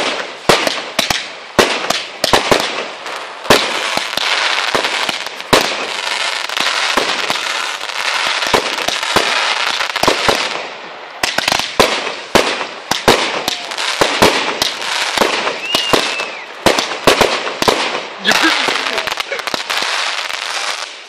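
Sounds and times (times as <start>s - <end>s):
fireworks bangs: 0.0s - 21.0s
fireworks crackling and hissing: 0.0s - 21.0s.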